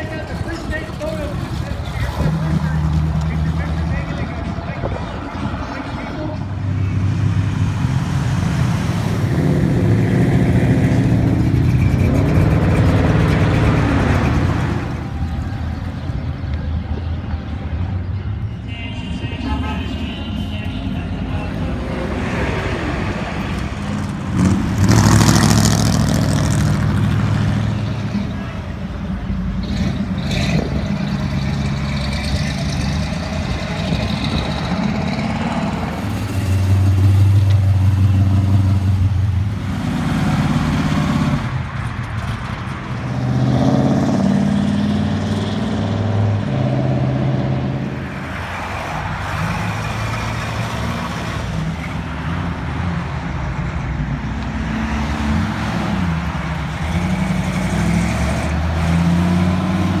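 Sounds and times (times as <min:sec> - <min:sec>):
car and truck engines accelerating: 0:00.0 - 1:00.0.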